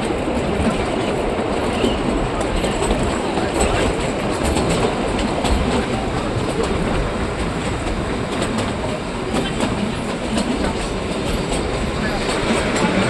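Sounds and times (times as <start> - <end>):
train rumble: 0.0 - 13.0
wheels clacking over rail joints: 1.4 - 13.0.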